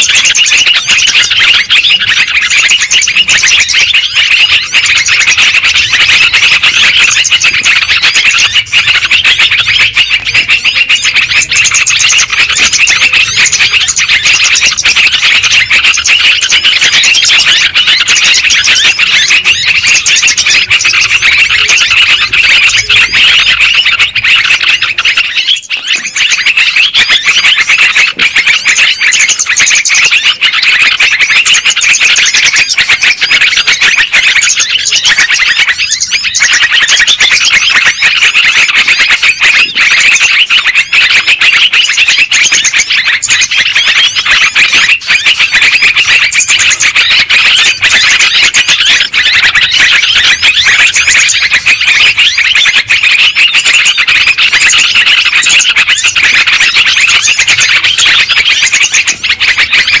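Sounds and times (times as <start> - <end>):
birds chattering: 0.0 - 60.0.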